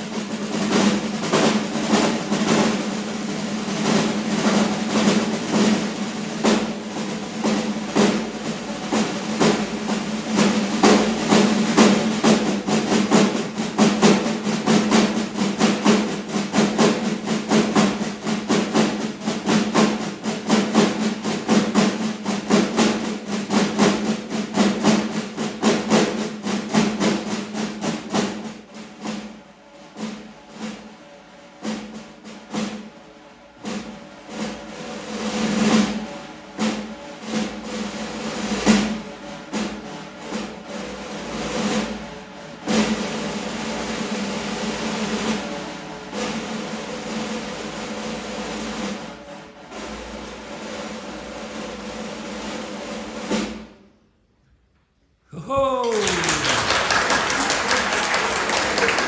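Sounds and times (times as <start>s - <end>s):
snare drum rolls: 0.0s - 33.0s, 33.6s - 53.8s, 55.3s - 59.0s.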